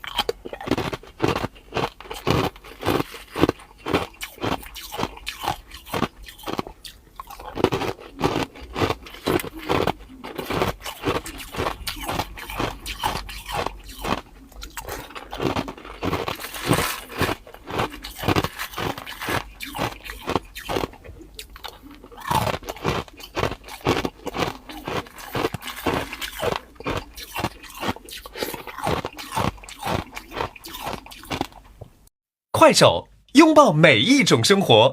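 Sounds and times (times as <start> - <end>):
ice being chewed: 0.0 - 31.8.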